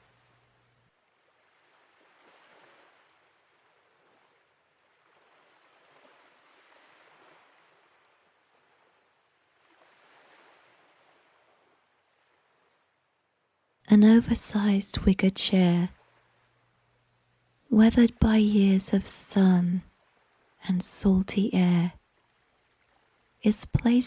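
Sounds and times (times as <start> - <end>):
faint sea waves washing in: 0.0 - 24.0.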